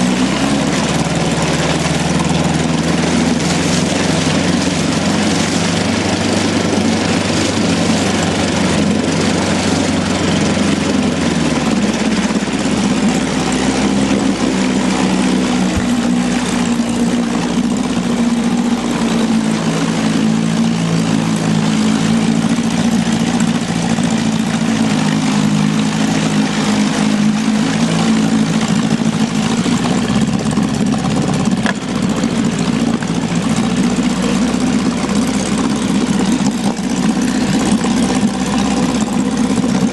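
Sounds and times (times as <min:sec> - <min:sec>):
boat motor running: 0:00.0 - 0:39.9.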